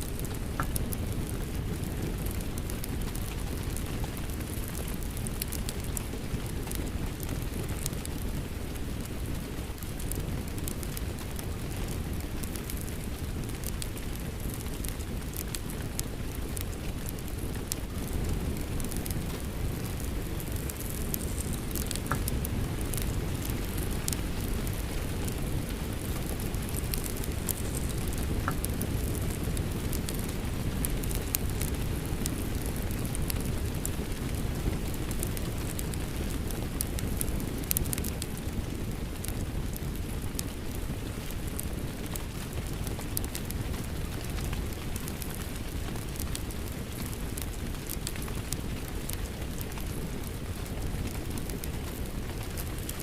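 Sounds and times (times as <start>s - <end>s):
steady rain: 0.0s - 53.0s
wood fire crackling: 0.0s - 53.0s.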